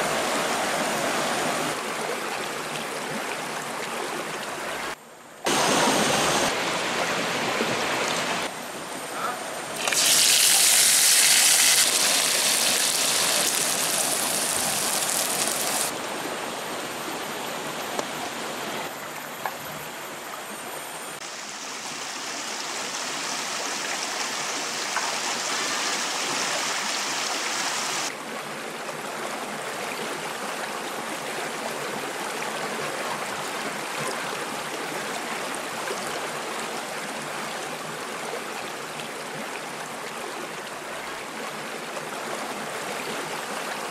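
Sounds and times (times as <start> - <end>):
stream running over rocks: 0.0 - 9.0, 9.6 - 19.2, 21.2 - 43.9.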